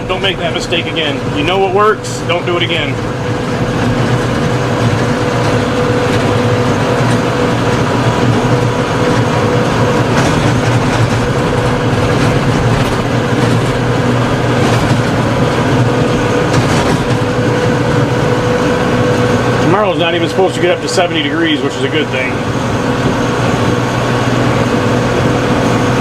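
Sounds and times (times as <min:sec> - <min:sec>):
constant whine: 0:00.0 - 0:26.0
tractor engine running: 0:00.0 - 0:26.0.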